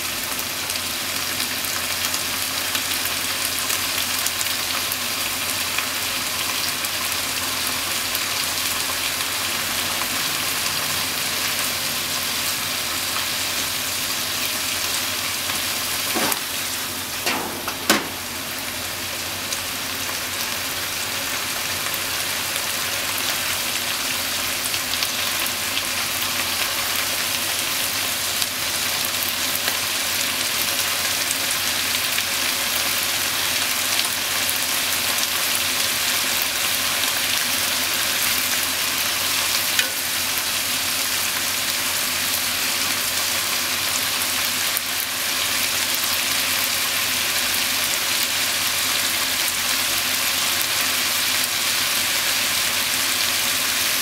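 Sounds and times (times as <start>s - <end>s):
meat sizzling in a frying pan: 0.0s - 54.0s
small pops of frying: 0.4s - 10.1s, 13.0s - 20.3s, 22.8s - 54.0s.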